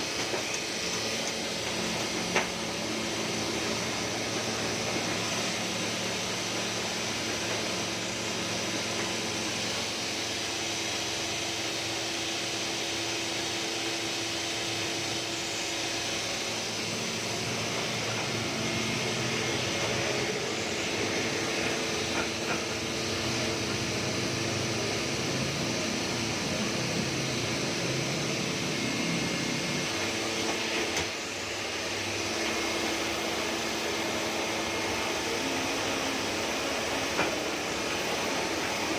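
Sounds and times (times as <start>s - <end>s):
printing press whirring hum: 0.0s - 38.9s.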